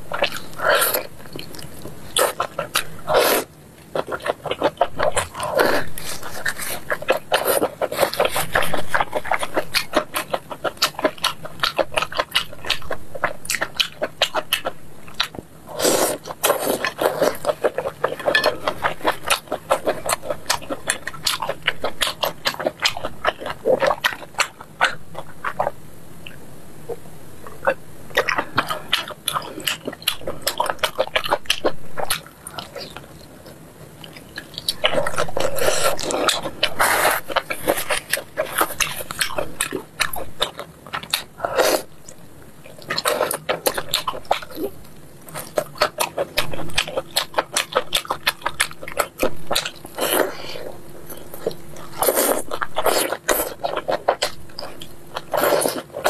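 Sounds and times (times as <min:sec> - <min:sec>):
close chewing and smacking: 0:00.0 - 0:26.4, 0:27.4 - 0:56.0.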